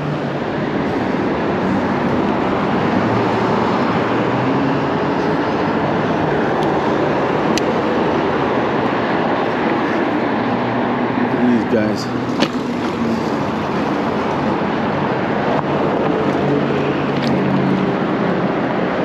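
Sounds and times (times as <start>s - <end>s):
road traffic rushing: 0.0s - 19.0s.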